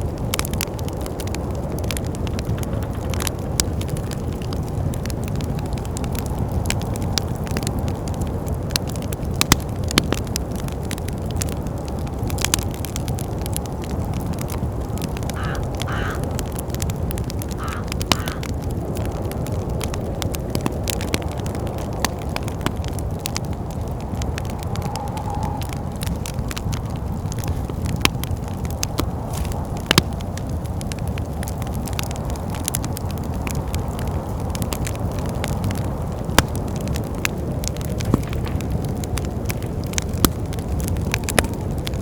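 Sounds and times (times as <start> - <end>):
low rumble of wind: 0.0 - 42.0
wood fire crackling and popping: 0.0 - 42.0.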